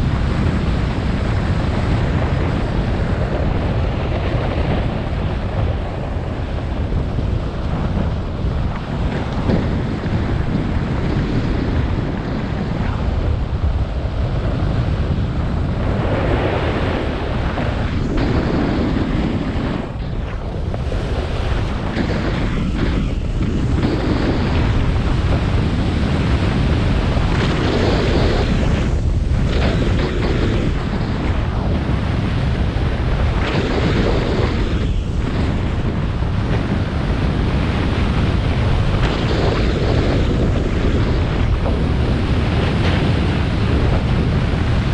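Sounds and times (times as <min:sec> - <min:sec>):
snowboard scraping over snow: 0:00.0 - 0:44.9
wind buffeting microphone: 0:00.0 - 0:44.9.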